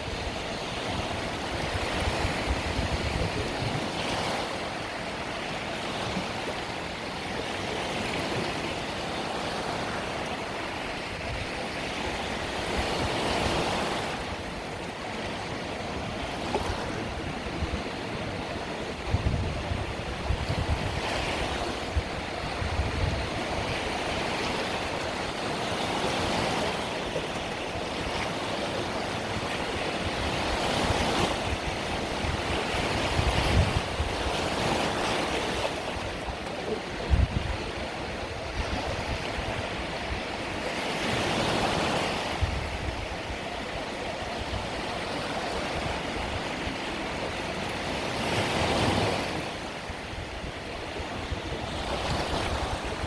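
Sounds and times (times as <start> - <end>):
small waves breaking on shore: 0.0 - 53.0.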